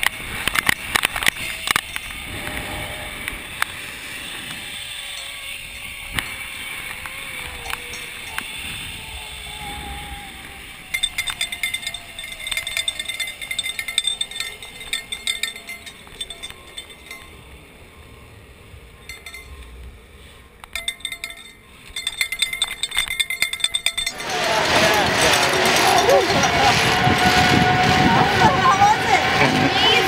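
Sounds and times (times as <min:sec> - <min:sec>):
metallic clinks and rattles: 0:00.0 - 0:02.4, 0:03.6 - 0:17.7, 0:19.0 - 0:27.4
pulleys whining on steel cable: 0:00.0 - 0:30.0.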